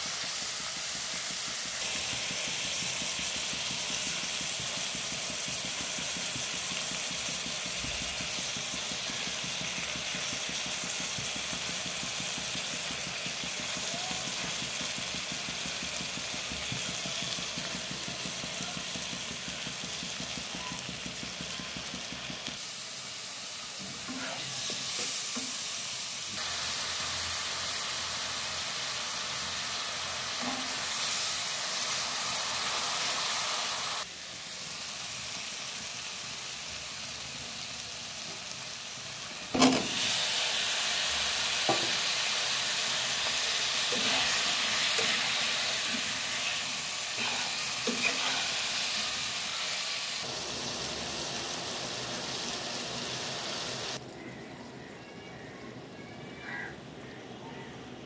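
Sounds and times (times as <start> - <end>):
onions sizzling in oil: 0.0 - 56.8.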